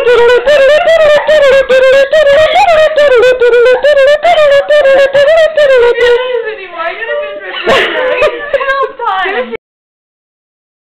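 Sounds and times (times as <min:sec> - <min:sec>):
person singing a lively jig: 0:00.0 - 0:09.6.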